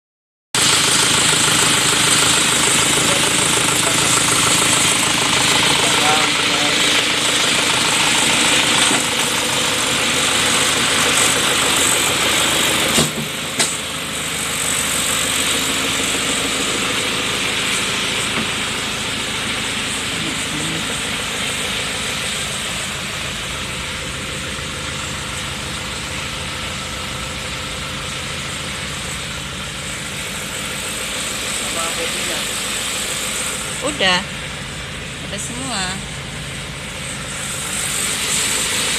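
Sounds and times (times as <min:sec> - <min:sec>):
diesel engine idling: 0:00.6 - 0:38.9.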